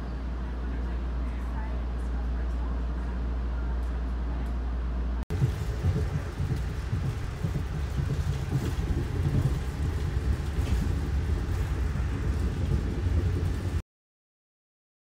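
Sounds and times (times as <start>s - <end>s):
train rumbling on track: 0.0s - 13.8s.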